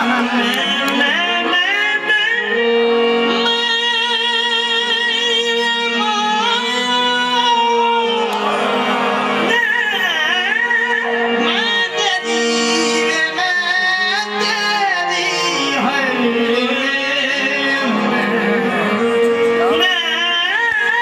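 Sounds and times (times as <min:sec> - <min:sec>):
men singing ornamented lines: 0:00.0 - 0:08.5, 0:09.4 - 0:21.0
harmonium chords: 0:00.0 - 0:21.0.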